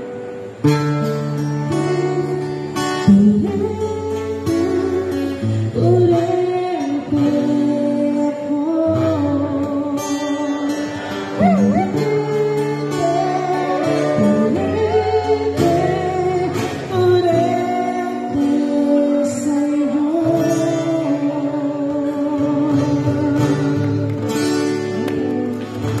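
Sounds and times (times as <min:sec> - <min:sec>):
acoustic guitar strumming: 0:00.0 - 0:26.0
person singing with vibrato: 0:01.6 - 0:25.0.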